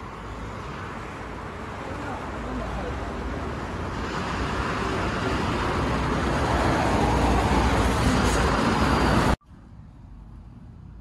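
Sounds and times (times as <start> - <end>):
bus engine rumble: 0.0 - 11.0
road noise: 0.0 - 11.0.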